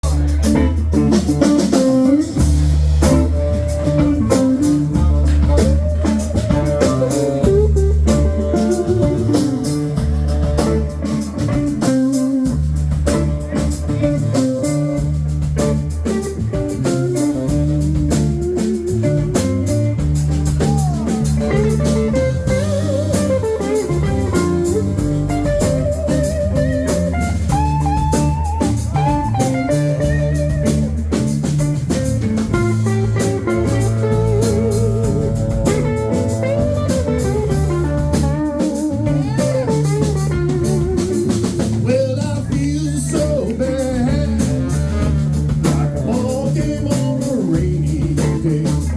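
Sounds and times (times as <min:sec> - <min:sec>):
guitar lead line bending: 0:00.0 - 0:48.9
live band playing: 0:00.0 - 0:48.9.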